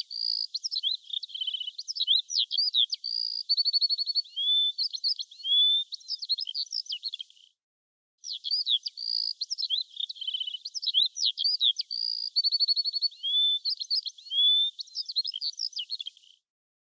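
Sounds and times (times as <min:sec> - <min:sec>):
songbird singing: 0:00.0 - 0:07.6, 0:08.2 - 0:16.4.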